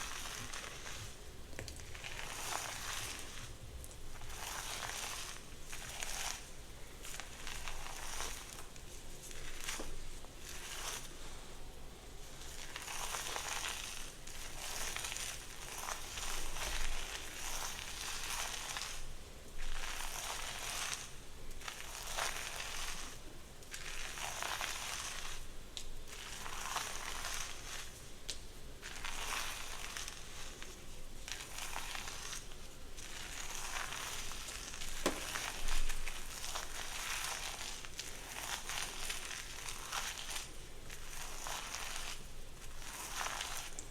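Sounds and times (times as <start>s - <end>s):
brush strokes through hair: 0.0s - 19.1s, 19.7s - 23.2s, 26.1s - 28.2s, 28.8s - 43.9s.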